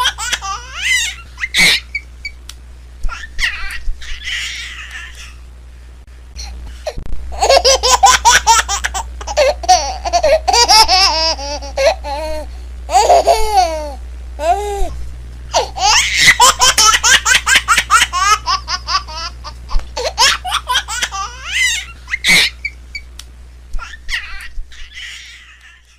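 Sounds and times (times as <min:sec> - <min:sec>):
baby laughing: 0:00.0 - 0:02.1, 0:03.1 - 0:05.4, 0:07.3 - 0:22.8, 0:23.8 - 0:25.9.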